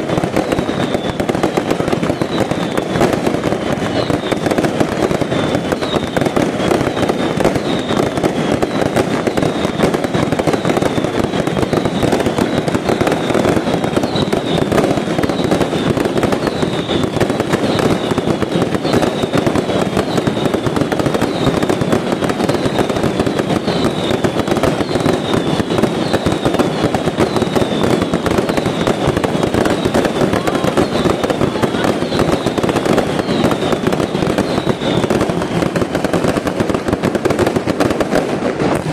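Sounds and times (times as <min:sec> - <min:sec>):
falling firework whistles: 0:00.0 - 0:38.9
fireworks crackling and popping: 0:00.0 - 0:38.9.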